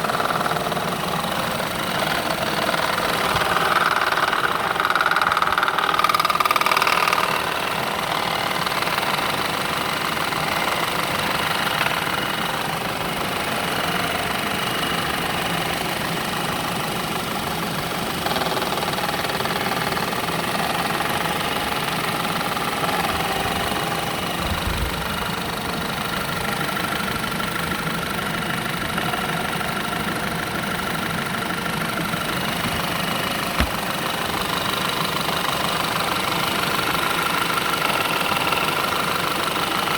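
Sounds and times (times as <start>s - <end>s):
car engine running: 0.0s - 39.9s
fast even engine knock: 0.0s - 39.9s.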